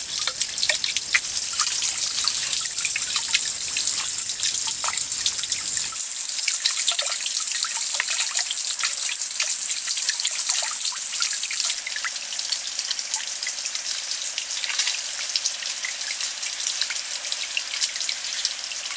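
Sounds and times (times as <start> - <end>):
water trickling and dripping: 0.0 - 18.9.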